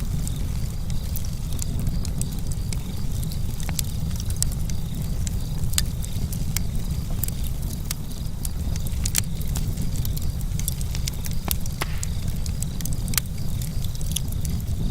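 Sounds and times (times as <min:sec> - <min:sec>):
burning wood crackling and popping: 0:00.0 - 0:14.9
campfire flames rumbling: 0:00.0 - 0:14.9.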